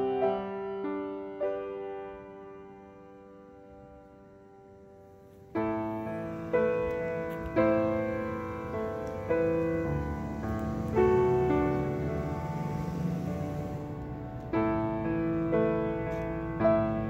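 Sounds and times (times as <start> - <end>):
slow soft piano chords: 0.0 - 17.0.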